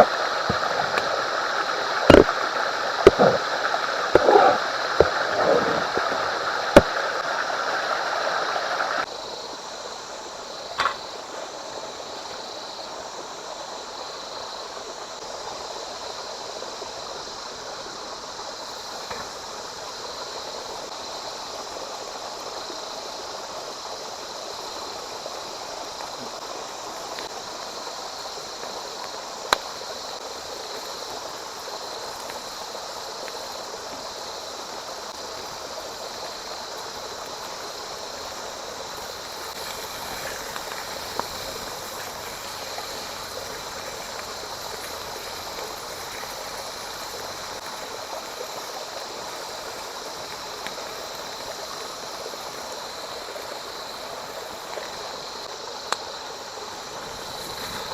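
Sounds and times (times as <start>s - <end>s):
flowing water rushing: 0.0s - 57.9s.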